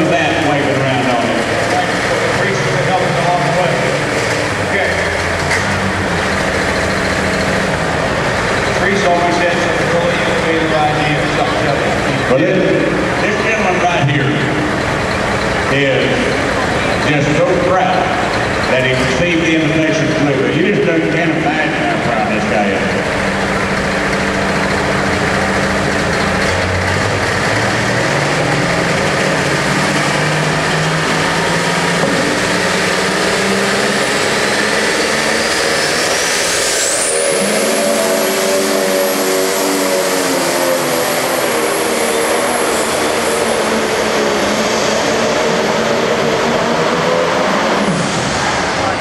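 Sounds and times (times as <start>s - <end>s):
high whine: 0.0s - 49.0s
tractor engine running hard: 0.0s - 49.0s.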